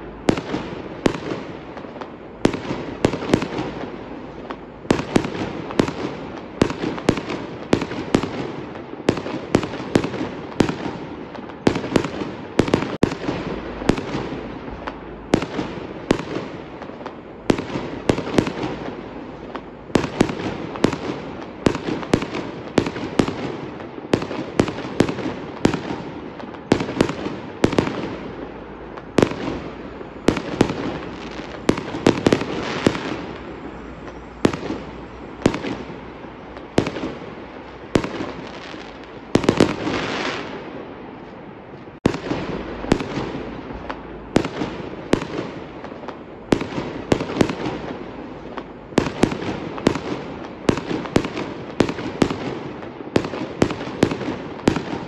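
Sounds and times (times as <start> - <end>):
fireworks bangs: 0.0 - 55.0
fireworks rumble: 0.0 - 55.0.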